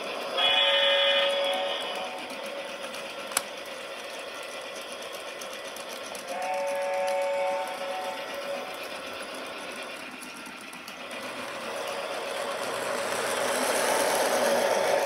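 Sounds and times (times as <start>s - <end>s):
model train motor whir: 0.0s - 15.0s
train wheel rattle: 0.0s - 15.0s.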